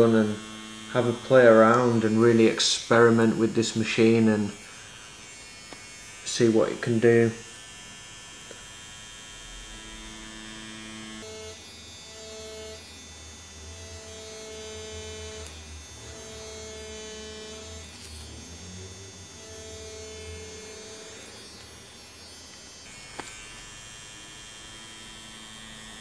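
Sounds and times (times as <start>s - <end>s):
tattoo machine humming: 0.0s - 26.0s.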